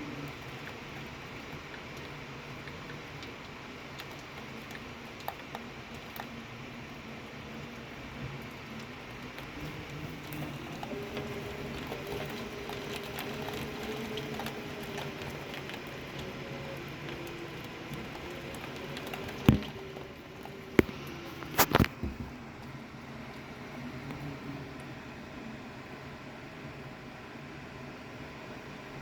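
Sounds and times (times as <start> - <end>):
faint low hum: 0.0 - 29.0
rain pattering: 0.0 - 29.0.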